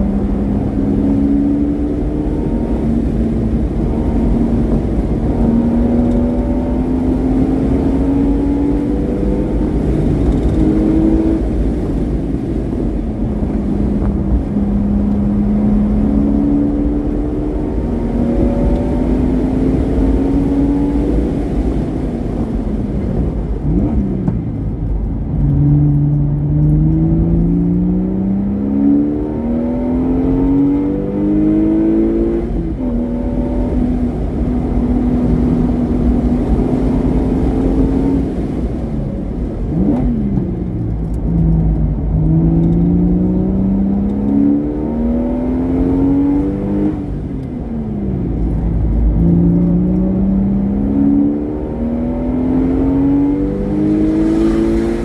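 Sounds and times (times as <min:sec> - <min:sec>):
sports car engine revving: 0:00.0 - 0:12.6, 0:13.2 - 0:22.5, 0:23.5 - 0:55.0.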